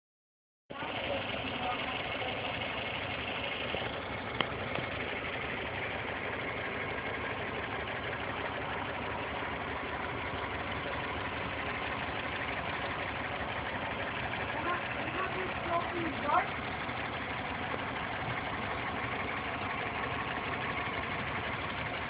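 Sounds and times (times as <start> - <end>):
car engine idling with ticking: 0.7 - 22.0.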